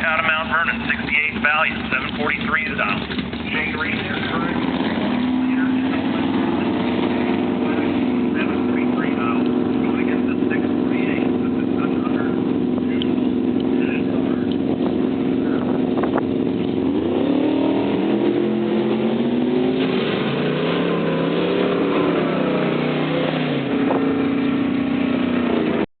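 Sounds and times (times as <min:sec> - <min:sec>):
drag racing car engines revving: 0:00.0 - 0:25.9.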